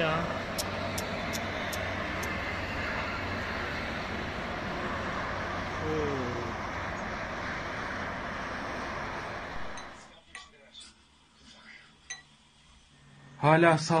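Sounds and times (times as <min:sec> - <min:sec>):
motorway traffic noise: 0:00.0 - 0:12.0.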